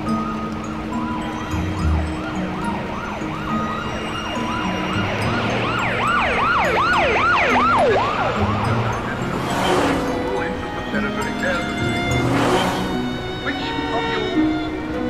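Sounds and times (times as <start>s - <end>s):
sustained low musical notes: 0.0s - 15.0s
siren-like warbling tone: 1.0s - 14.4s.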